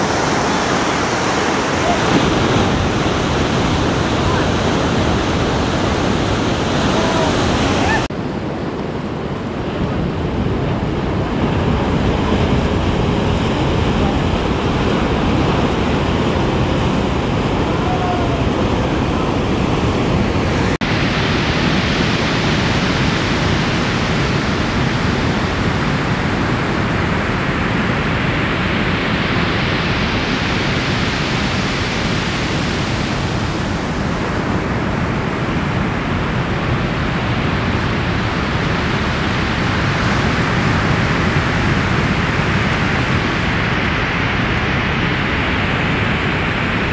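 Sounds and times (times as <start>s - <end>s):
ocean surf breaking: 0.0s - 46.9s
wind on microphone: 0.0s - 46.9s.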